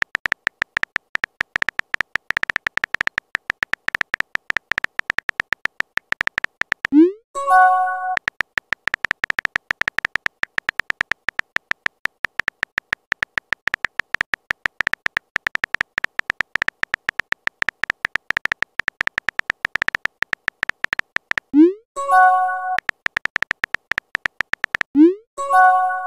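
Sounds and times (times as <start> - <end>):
keyboard typing clicks: 0.0 - 26.0.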